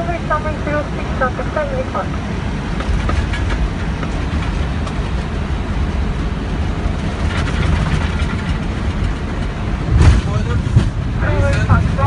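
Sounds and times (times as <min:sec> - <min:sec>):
jet engines and air rumble: 0:00.0 - 0:12.0.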